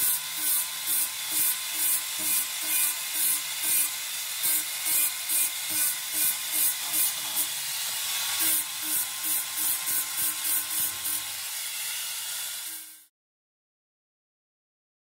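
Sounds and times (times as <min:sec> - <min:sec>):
angle grinder grinding metal: 0:00.0 - 0:13.1.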